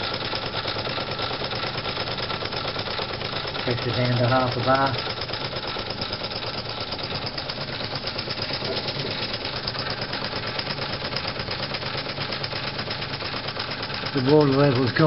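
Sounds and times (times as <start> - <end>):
toy steam engine clatter: 0.0 - 15.0.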